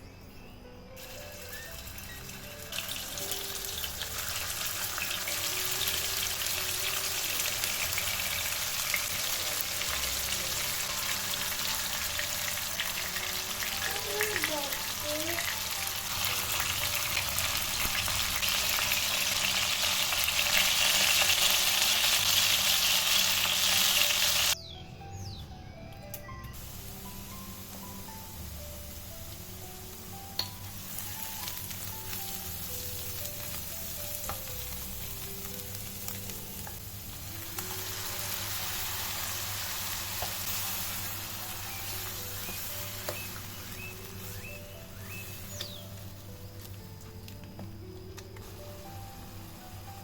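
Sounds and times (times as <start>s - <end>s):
soft background music: 0.0s - 50.0s
food frying in hot oil: 1.0s - 24.6s, 26.6s - 46.8s.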